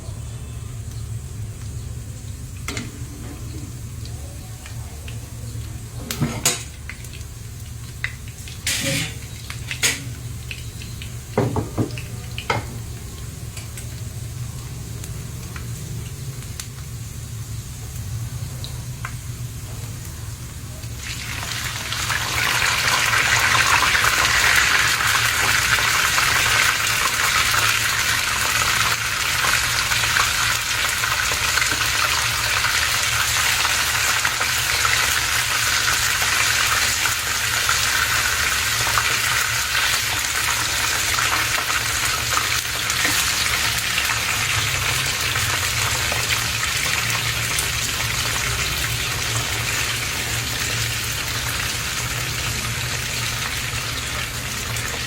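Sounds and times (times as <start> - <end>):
meat sizzling in hot oil: 0.1 - 55.0.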